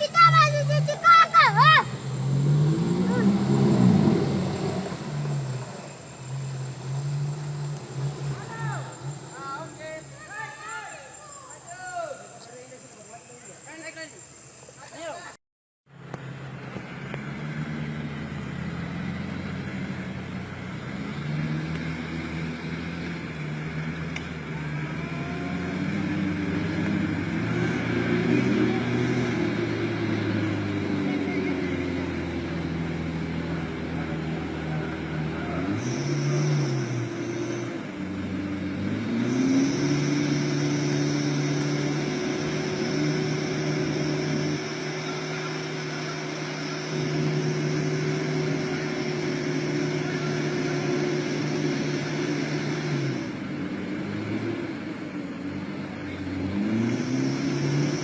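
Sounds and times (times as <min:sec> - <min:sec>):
pickup truck engine revving: 0:00.0 - 0:10.8, 0:16.2 - 0:58.0.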